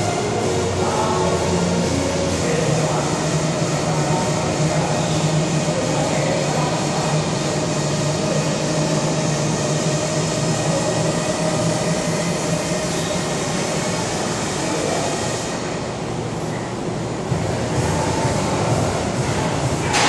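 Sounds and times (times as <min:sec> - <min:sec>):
air conditioning hum: 0:00.0 - 0:20.0.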